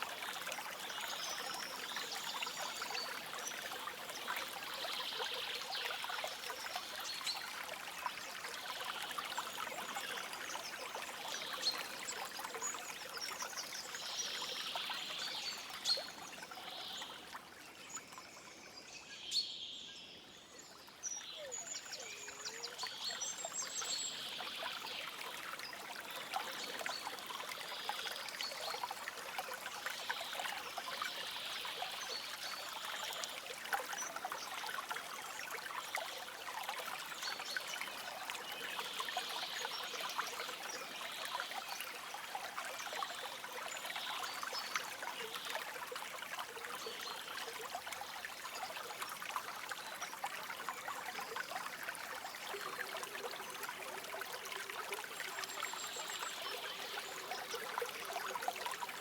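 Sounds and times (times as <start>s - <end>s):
stream babbling over stones: 0.0s - 18.3s, 20.9s - 59.0s.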